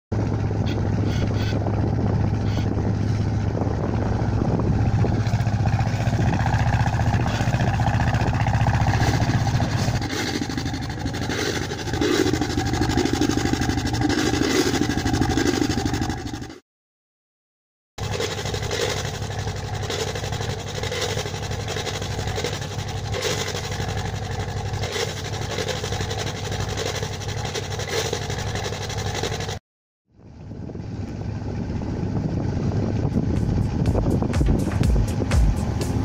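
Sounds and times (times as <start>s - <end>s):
diesel engine running: 0.1s - 16.6s, 18.0s - 36.0s.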